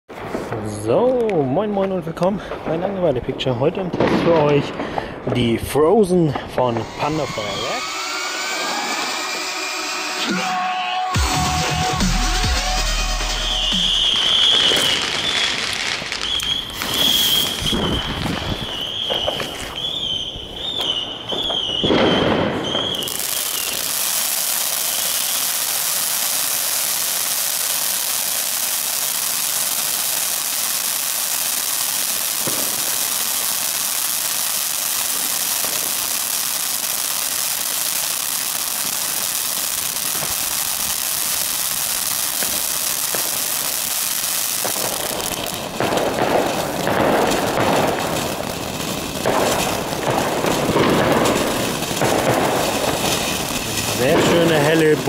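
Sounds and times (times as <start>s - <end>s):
firework crackling and popping: 0.0s - 55.0s
firework sparks hissing: 0.1s - 0.6s, 6.5s - 55.0s.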